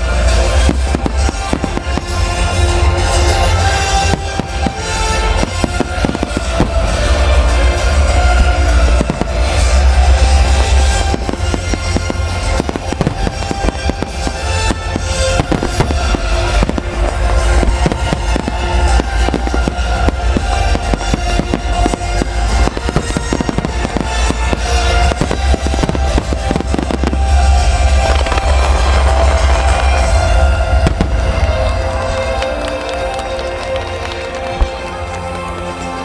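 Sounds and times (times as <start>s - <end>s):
deep continuous rumble: 0.0s - 36.0s
fireworks bursting and crackling: 0.0s - 36.0s
music: 0.0s - 36.0s.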